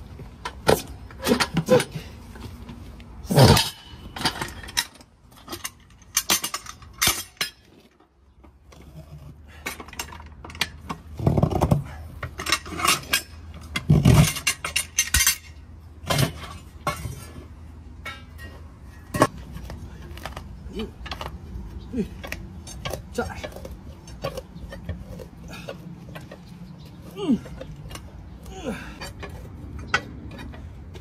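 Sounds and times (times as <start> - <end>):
steel tools clanking and scraping: 3.3 - 8.1, 8.7 - 31.0.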